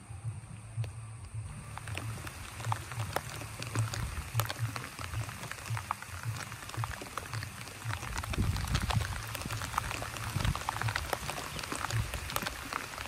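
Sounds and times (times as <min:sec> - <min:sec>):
low rumble: 0:00.0 - 0:12.7
steady low hum: 0:00.0 - 0:13.0
rain falling on leaves: 0:00.8 - 0:13.0.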